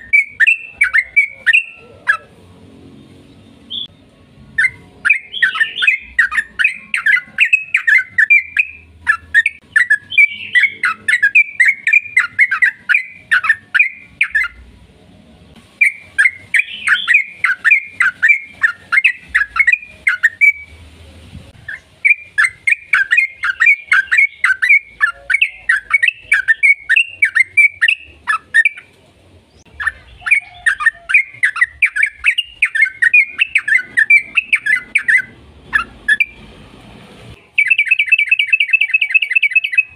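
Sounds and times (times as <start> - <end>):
bulbul chattering song: 0.0 - 14.8, 15.8 - 36.6, 37.3 - 39.9.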